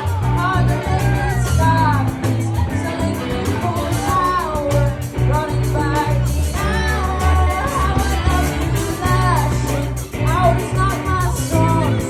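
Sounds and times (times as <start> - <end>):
live band playing: 0.0 - 12.0
person singing: 0.0 - 12.0.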